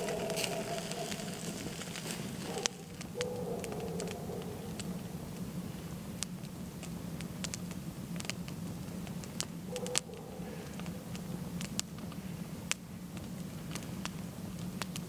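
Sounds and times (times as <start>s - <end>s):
campfire crackling and popping: 0.0s - 15.0s
steady low hum: 0.0s - 15.0s.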